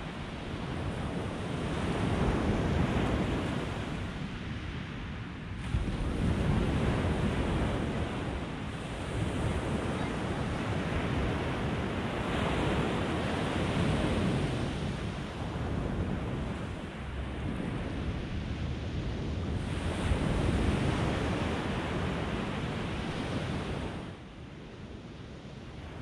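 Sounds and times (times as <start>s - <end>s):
waves washing onto beach: 0.0s - 26.0s
wind rumbling on microphone: 0.0s - 26.0s.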